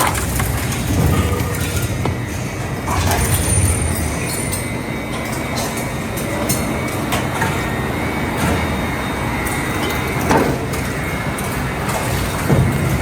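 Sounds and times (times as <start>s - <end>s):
shredder heavy mechanical din: 0.0s - 13.0s.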